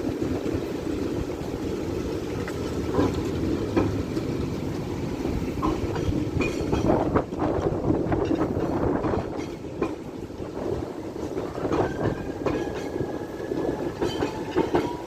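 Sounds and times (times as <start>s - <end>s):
tram running rumble: 0.0s - 15.0s.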